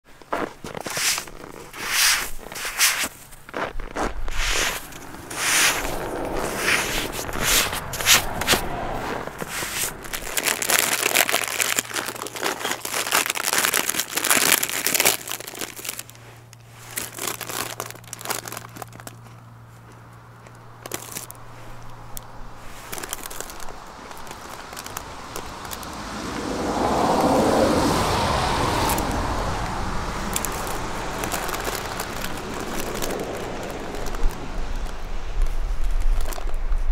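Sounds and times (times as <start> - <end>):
snow crunching: 0.1 - 36.9.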